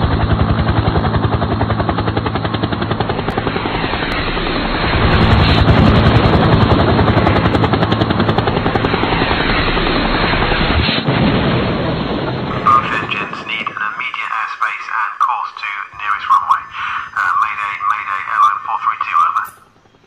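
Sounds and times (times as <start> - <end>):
helicopter rotor chopping: 0.0 - 20.0.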